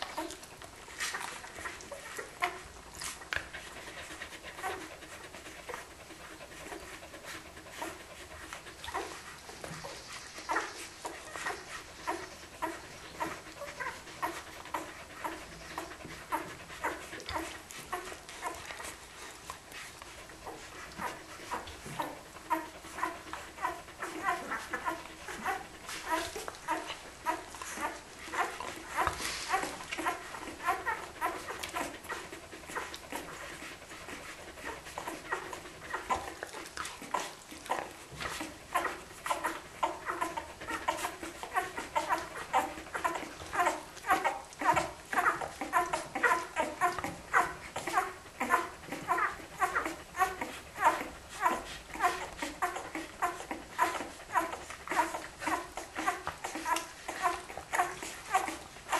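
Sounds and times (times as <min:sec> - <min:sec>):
dog panting: 0:00.0 - 0:58.9
puppies squeaking and whimpering: 0:00.0 - 0:58.9.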